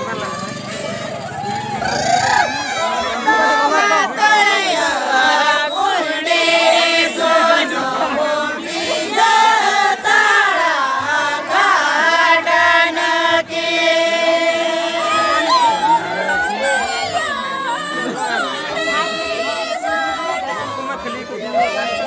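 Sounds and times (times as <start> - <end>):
group of voices singing: 1.6 - 22.0.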